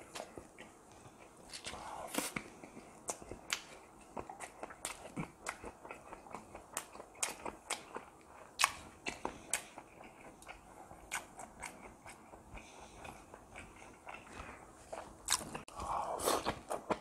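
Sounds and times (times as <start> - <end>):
person chewing with wet smacks: 0.0 - 17.0.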